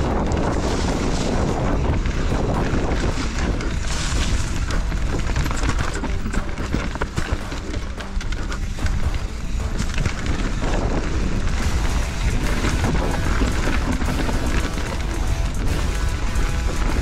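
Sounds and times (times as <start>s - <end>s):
bike knocking over rocks: 0.0s - 17.0s
tyres rumbling on trail: 0.0s - 17.0s
wind on microphone: 0.0s - 17.0s.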